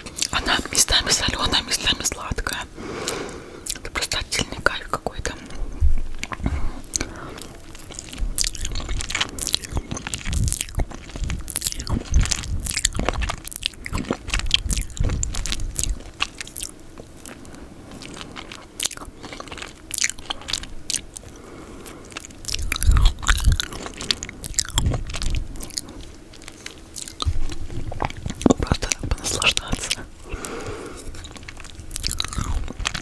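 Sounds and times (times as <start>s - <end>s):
wet mouth clicks and smacks: 0.1s - 5.4s, 6.2s - 17.4s, 22.1s - 33.0s.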